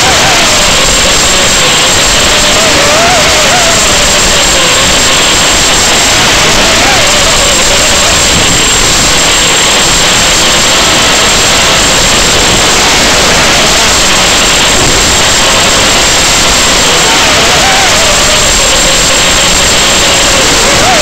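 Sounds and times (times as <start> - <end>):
static hiss: 0.0 - 21.0.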